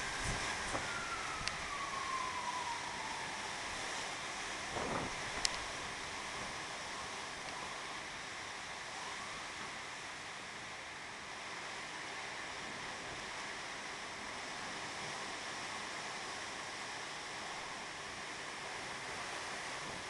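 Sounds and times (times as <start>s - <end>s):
heavy rain on pavement: 0.0s - 20.0s
wind: 0.0s - 20.0s.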